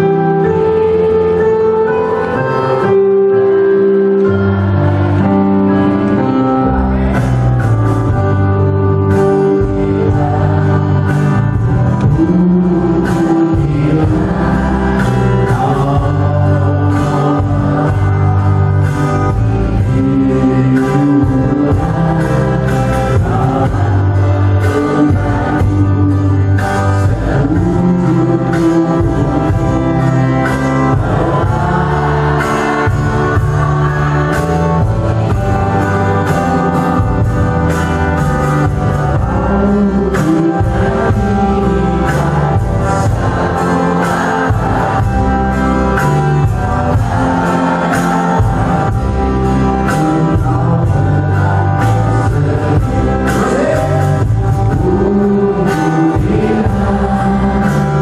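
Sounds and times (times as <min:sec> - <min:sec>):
person singing into microphone: 0:00.0 - 0:37.9, 0:38.5 - 0:58.0
music with steady beat: 0:00.0 - 0:58.0.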